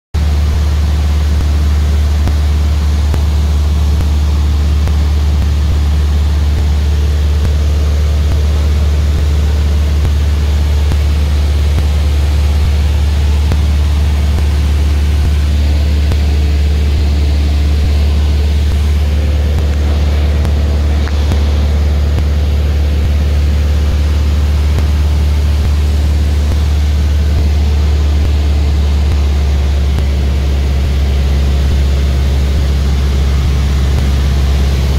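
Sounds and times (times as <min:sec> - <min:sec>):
light aircraft engine drone: 0:00.2 - 0:34.9.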